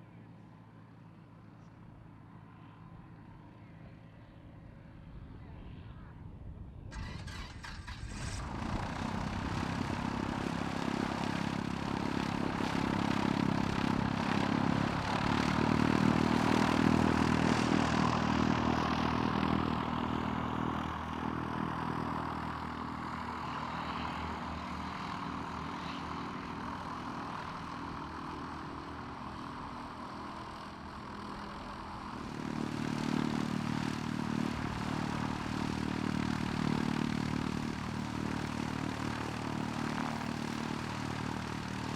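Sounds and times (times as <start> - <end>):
propeller aircraft engine: 0.0 - 41.9.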